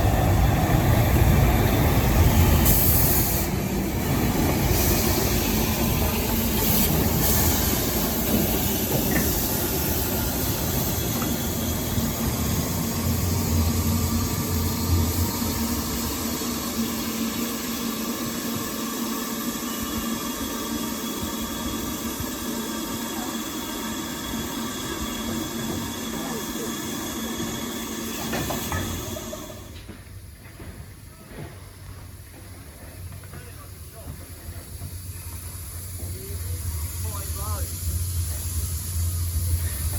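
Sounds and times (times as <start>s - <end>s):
steam locomotive hissing: 0.0s - 39.9s
train rumble: 0.0s - 39.9s.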